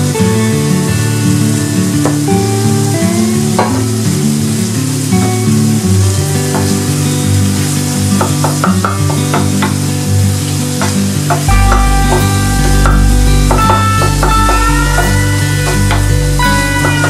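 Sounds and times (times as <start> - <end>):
background guitar music: 0.0 - 17.0
food sizzling in a frying pan: 0.0 - 17.0.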